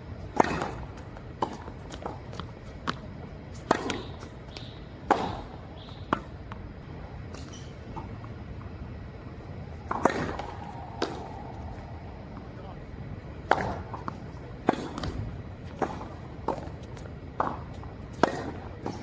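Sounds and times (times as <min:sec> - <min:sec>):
rackets striking tennis balls: 0:00.2 - 0:19.0
tennis balls bouncing on court: 0:00.2 - 0:19.0.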